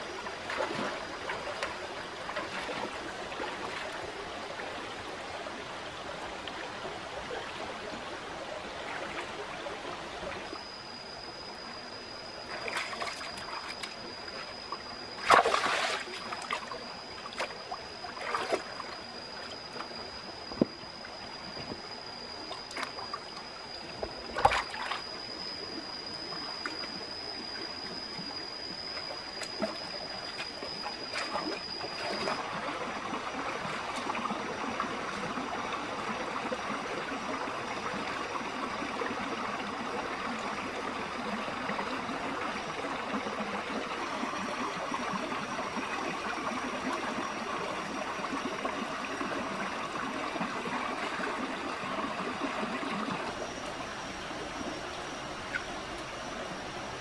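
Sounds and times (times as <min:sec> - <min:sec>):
stream trickling over stones: 0:00.0 - 0:10.6, 0:12.2 - 0:57.0
thin high whine: 0:00.0 - 0:57.0.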